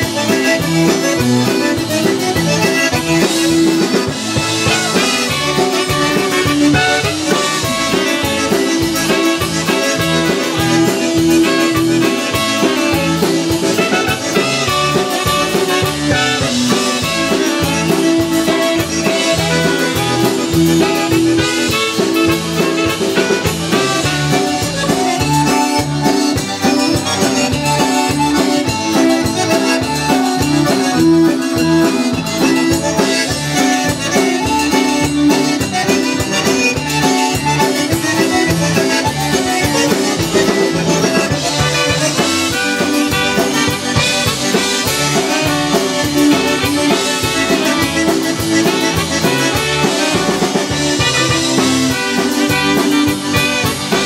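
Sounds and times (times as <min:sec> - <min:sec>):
accordions: 0:00.0 - 0:54.0
polka band playing: 0:00.0 - 0:54.0.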